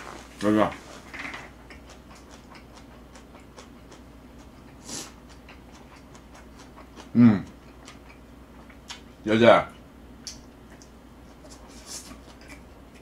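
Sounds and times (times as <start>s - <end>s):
wet mouth clicks chewing: 1.2s - 9.1s, 10.2s - 13.0s.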